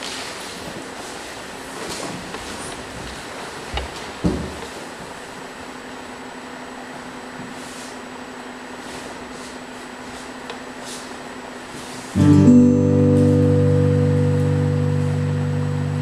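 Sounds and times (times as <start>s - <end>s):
room tone hiss and hum: 0.0s - 16.0s.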